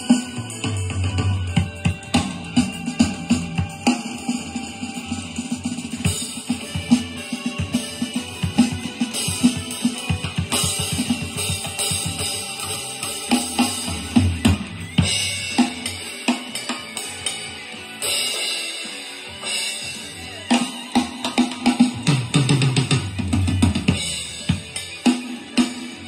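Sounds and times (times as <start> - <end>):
electronic drum kit playing: 0.0 - 26.0.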